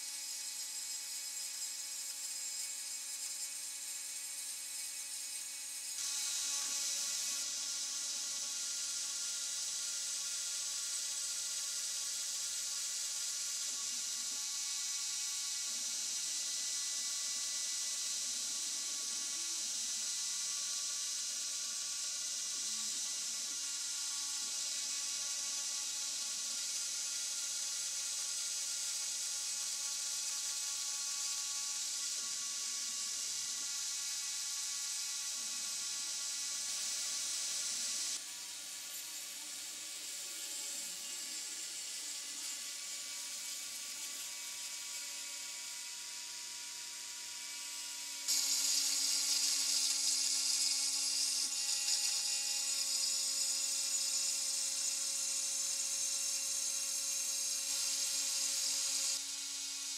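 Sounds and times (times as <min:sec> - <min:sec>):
rotary tool high whine: 0:00.0 - 0:59.9.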